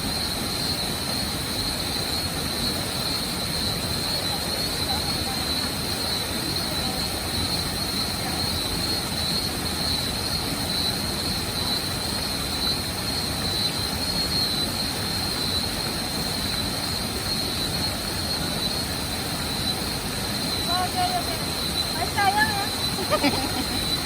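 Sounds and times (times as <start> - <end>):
constant high whine: 0.0 - 24.0
waterfall roaring: 0.0 - 24.0.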